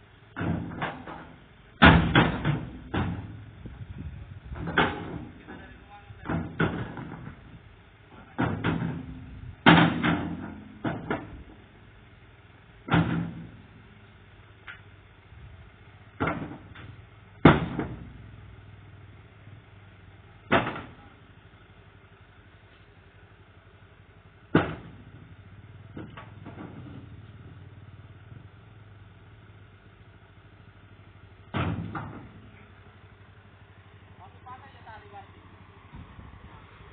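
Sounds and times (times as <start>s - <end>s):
faint engine hum: 0.0s - 36.9s
vehicle thumps and clunks: 0.2s - 11.9s, 12.8s - 14.0s, 14.6s - 19.7s, 20.4s - 21.3s, 24.4s - 29.6s, 30.7s - 35.2s, 35.9s - 36.9s.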